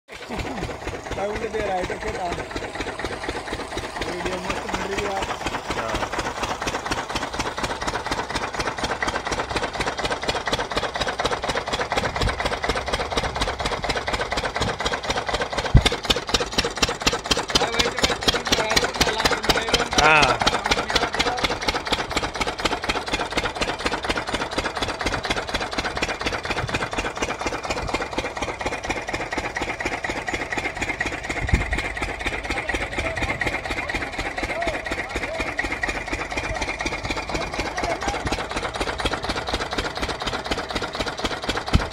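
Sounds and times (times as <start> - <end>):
diesel engine running: 0.1 - 41.9
engine knocks: 0.1 - 41.9
water pump: 0.1 - 41.9.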